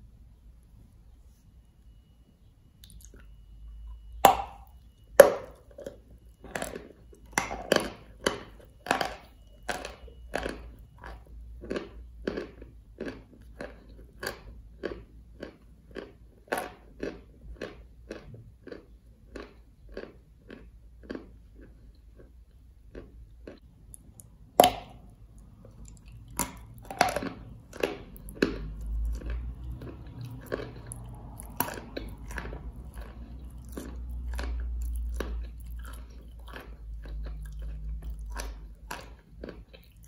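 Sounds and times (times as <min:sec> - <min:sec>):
crunchy chewing: 0:02.8 - 0:40.0
crunching bites: 0:04.1 - 0:40.0.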